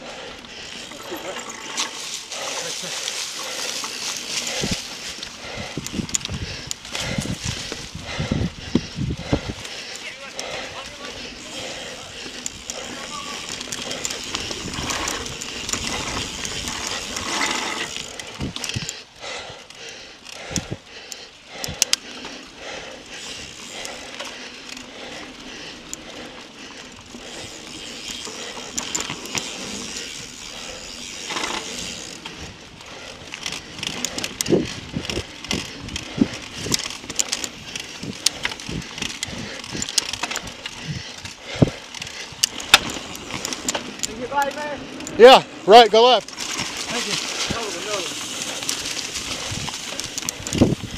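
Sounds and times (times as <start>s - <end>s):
bike rattling over bumps: 0.0s - 50.9s
bike tyres crunching leaves: 0.0s - 50.9s.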